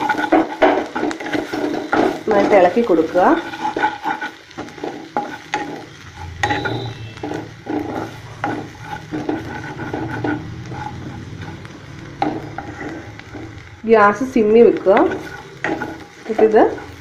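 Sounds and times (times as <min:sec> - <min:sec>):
spatula scraping metal pan: 0:00.0 - 0:13.7, 0:14.4 - 0:17.0
food frying: 0:00.0 - 0:17.0.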